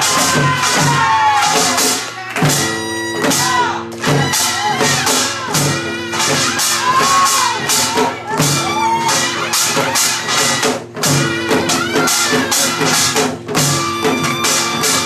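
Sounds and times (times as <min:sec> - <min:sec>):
clashing metal percussion: 0:00.0 - 0:15.0
drums striking: 0:00.0 - 0:15.0.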